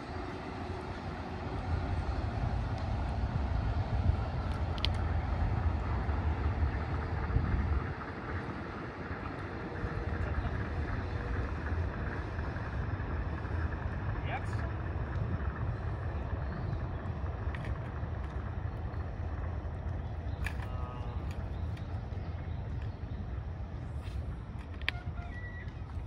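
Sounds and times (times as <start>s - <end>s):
monorail train rumbling: 0.0s - 26.0s.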